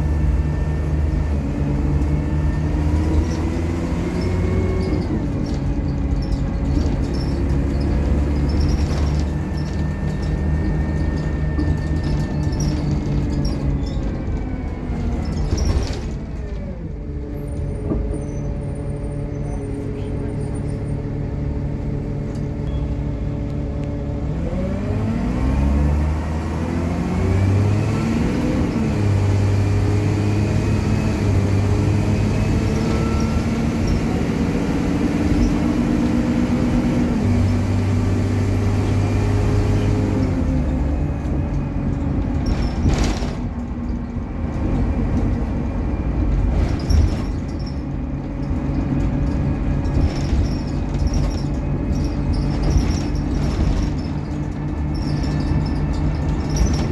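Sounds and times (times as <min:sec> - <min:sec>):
bus diesel engine: 0:00.0 - 0:56.9
road and body noise: 0:00.0 - 0:56.9.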